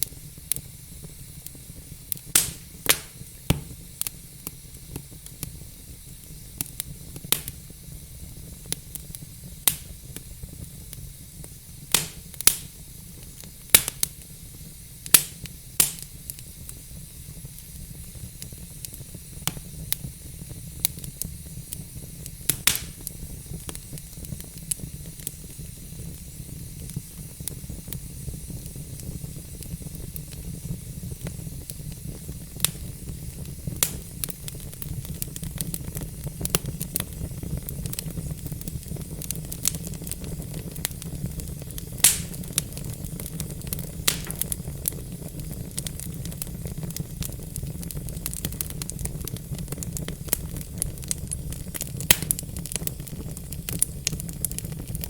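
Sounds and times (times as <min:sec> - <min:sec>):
fire crackling: 0:00.0 - 0:55.0
flames rumbling and hissing: 0:00.0 - 0:55.0
sharp pops of burning logs: 0:00.0 - 0:55.0.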